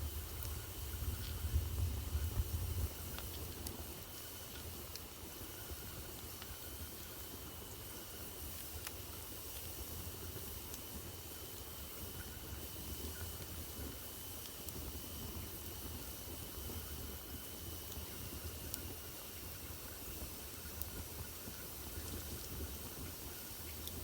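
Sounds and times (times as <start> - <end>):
wood fire hissing and rumbling: 0.0 - 24.0.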